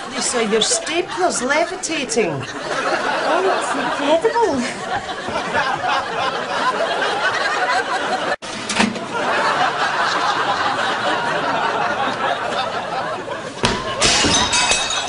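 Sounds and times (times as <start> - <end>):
audience laughing: 0.0 - 14.1.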